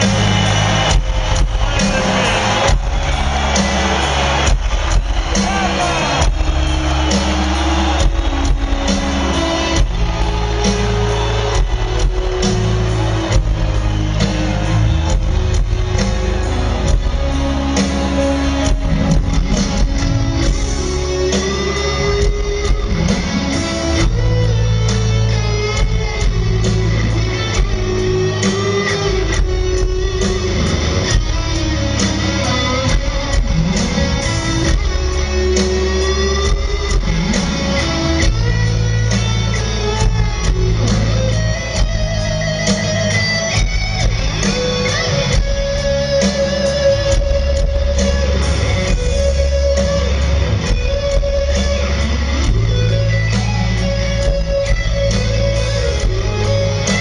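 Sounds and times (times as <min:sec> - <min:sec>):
electric guitar lead: 0:00.0 - 0:57.0
live rock band: 0:00.0 - 0:57.0.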